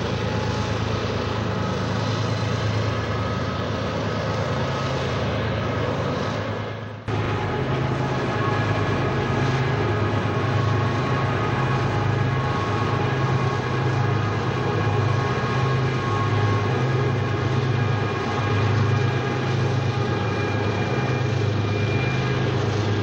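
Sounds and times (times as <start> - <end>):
diesel locomotives droning: 0.0 - 23.0
train rumble: 0.0 - 23.0.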